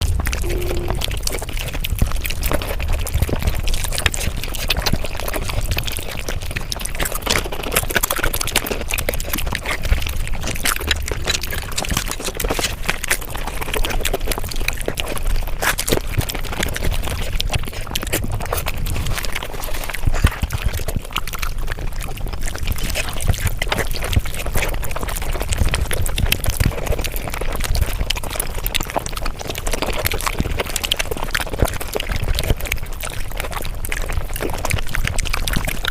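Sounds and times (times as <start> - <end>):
rapid wet chewing and smacking: 0.0 - 35.9.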